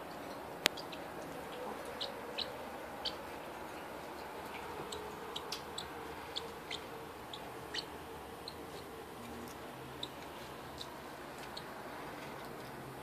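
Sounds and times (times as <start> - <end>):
bird chirping: 0.0 - 12.7
faint room hum: 0.0 - 13.0.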